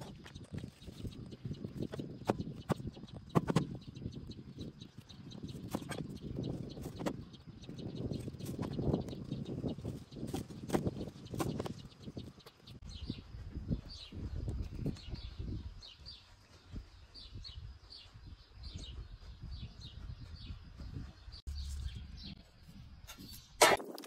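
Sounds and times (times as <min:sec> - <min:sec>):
small bird chirping: 0:00.0 - 0:23.8.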